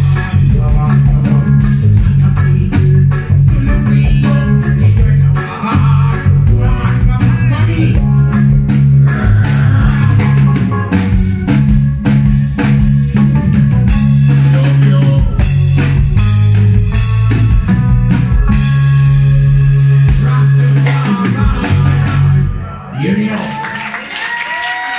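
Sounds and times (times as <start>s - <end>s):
drum kit beat: 0.0s - 22.6s
electric guitar: 0.0s - 23.0s
deep bass line: 0.0s - 23.3s
keyboards: 0.0s - 23.4s.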